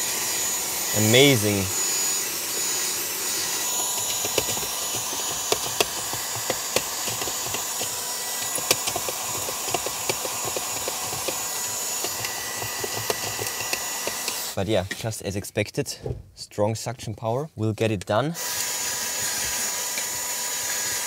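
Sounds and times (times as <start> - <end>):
handheld vacuum whine: 0.0 - 14.6, 18.4 - 21.0.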